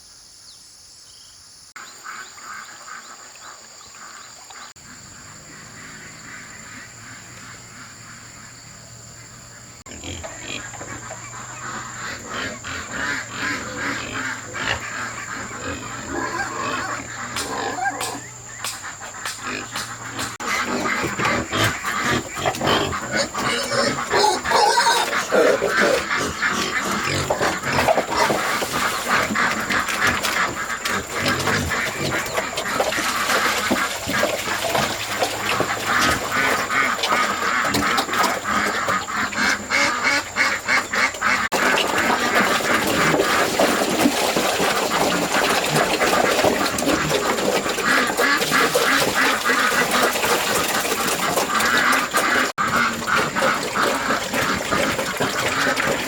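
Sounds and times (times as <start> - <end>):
farm animals calling: 1.8 - 56.0.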